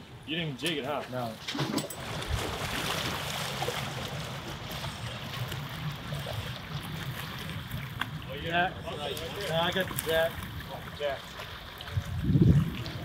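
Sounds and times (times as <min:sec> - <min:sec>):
waves splashing against rocks: 0:01.4 - 0:13.0.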